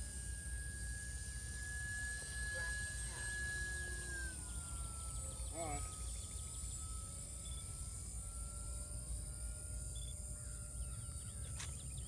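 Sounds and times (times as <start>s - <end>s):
insect buzz: 0.0s - 12.0s
model plane motor whine: 0.0s - 12.0s.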